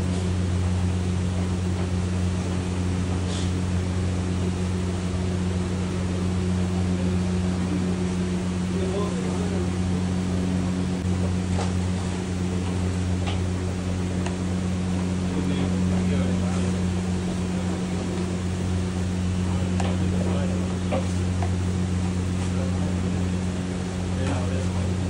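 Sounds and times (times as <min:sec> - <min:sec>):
kitchen machine hum: 0:00.0 - 0:25.0.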